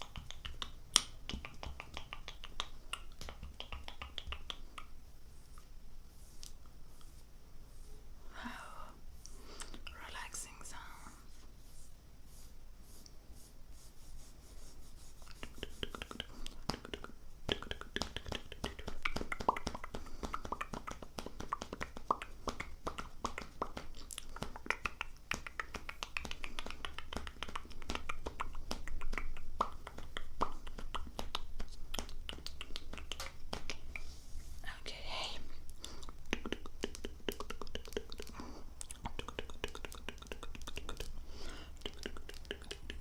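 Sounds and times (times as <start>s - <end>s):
soft rapid clicking and crackling: 0.0s - 7.2s, 15.1s - 43.0s.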